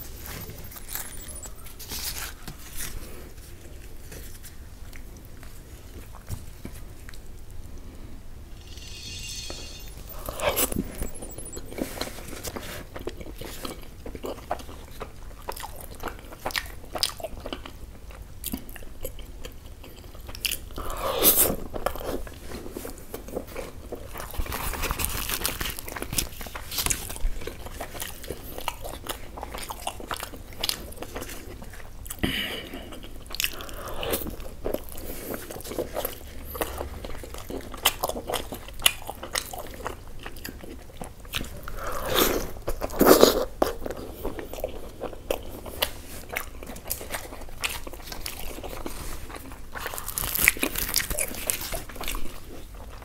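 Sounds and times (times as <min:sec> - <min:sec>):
close-miked chewing: 0:00.0 - 0:07.6, 0:10.1 - 0:53.0.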